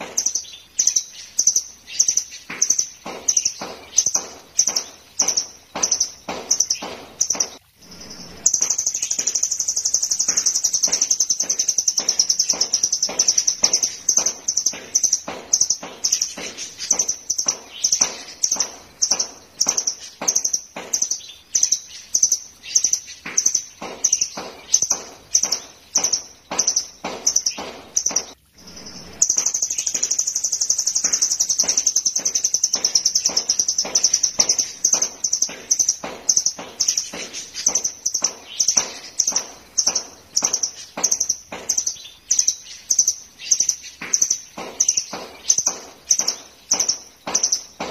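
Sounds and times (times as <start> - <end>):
bird singing repeated sharp notes: 0.0 - 47.9
fast high bird trill: 0.0 - 47.9.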